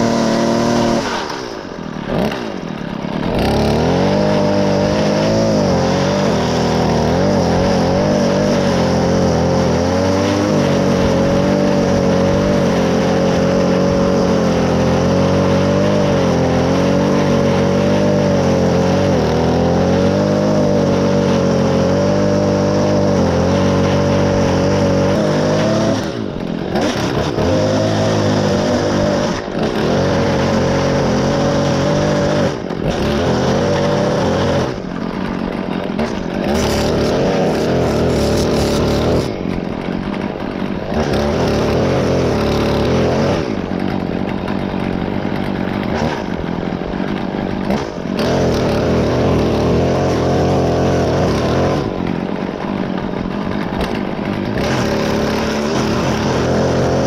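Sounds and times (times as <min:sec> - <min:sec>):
string trimmer engine revving: 0:00.0 - 0:57.0.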